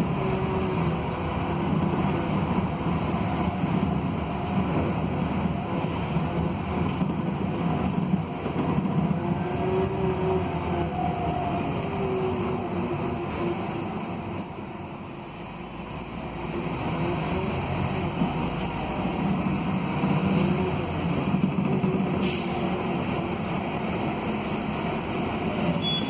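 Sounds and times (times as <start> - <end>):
bus diesel engine: 0.0 - 26.0
road and cabin noise: 0.0 - 26.0.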